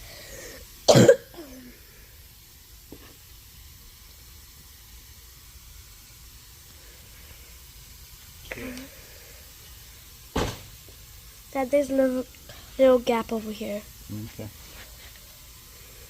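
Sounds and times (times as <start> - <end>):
faint steady air hiss: 0.0 - 16.0.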